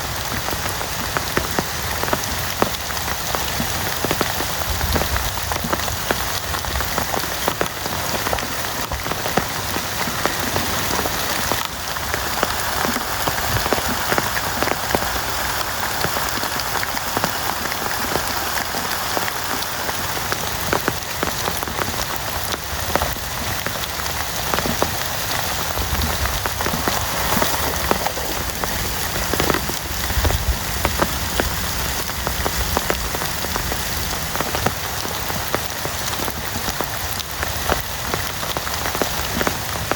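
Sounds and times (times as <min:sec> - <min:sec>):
heavy rain: 0:00.0 - 0:39.9
raindrops ticking: 0:00.0 - 0:39.9.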